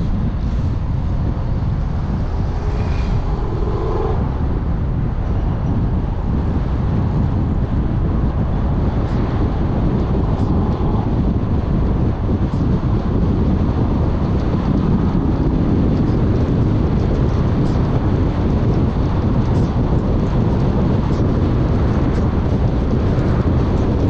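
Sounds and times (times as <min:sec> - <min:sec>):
car driving rumble: 0:00.0 - 0:24.0
tyre and road noise: 0:00.0 - 0:24.0
wind noise: 0:00.0 - 0:24.0.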